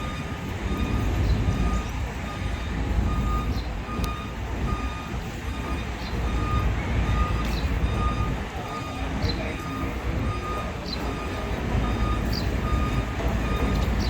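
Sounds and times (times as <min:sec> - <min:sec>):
backup alarm beeping: 0:00.0 - 0:14.0
low engine rumble: 0:00.0 - 0:14.0.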